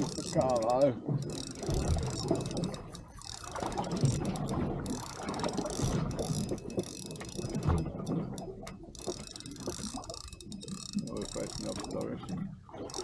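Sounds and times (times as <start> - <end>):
fishing reel ratchet clicks: 0.0 - 13.0.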